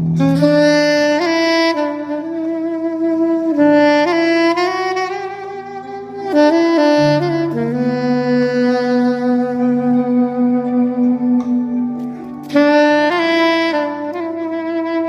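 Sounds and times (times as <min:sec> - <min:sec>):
low sustained accompaniment: 0:00.0 - 0:15.0
soprano saxophone ballad melody: 0:00.0 - 0:15.0.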